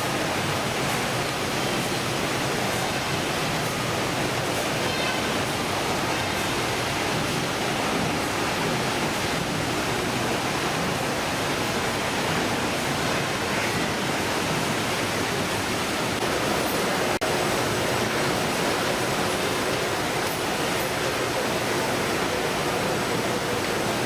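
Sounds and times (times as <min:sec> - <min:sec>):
rushing sea water: 0:00.0 - 0:24.0
wind: 0:00.0 - 0:24.0.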